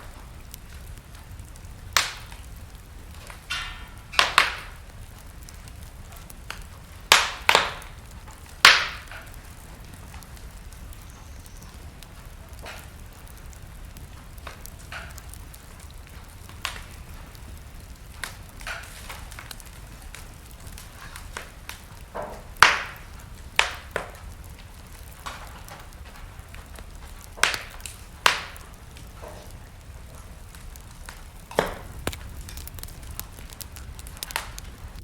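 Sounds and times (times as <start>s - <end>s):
fire crackling and popping: 0.0s - 35.0s
low fire rumble: 0.0s - 35.0s.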